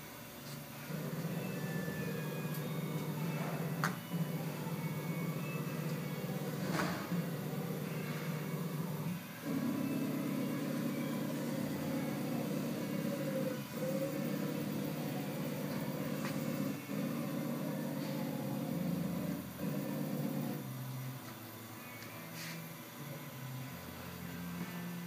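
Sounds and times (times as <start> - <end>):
lathe motor drone: 0.7 - 21.2.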